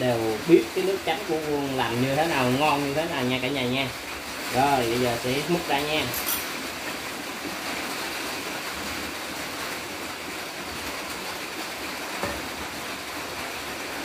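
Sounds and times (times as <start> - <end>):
rain on a metal roof: 0.0 - 14.0.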